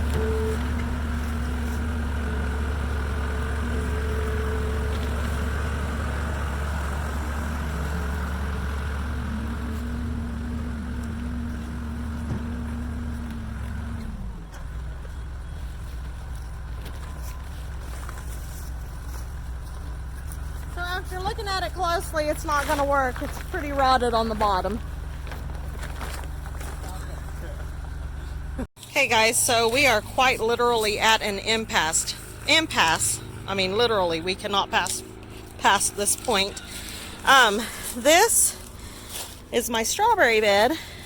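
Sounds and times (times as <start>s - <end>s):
loader engine running under load: 0.0s - 41.0s.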